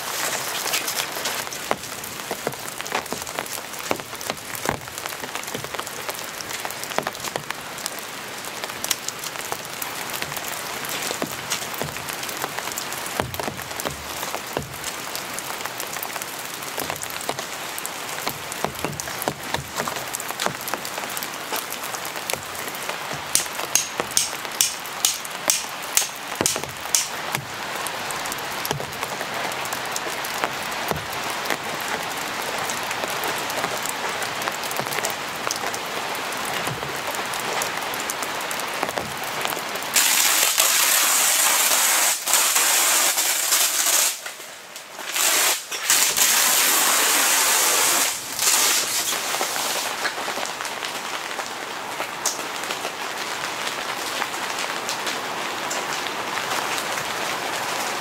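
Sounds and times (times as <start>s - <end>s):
rain pattering on tent fabric: 0.0s - 58.0s.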